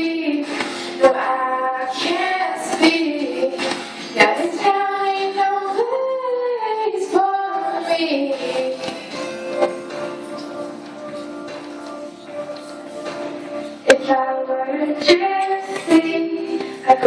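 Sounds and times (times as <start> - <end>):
girl singing into a microphone: 0.0 - 9.8, 10.4 - 17.0.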